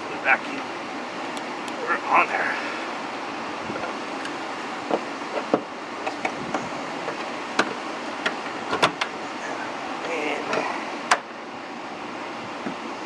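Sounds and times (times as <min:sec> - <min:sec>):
shop fan running: 0:00.0 - 0:13.0.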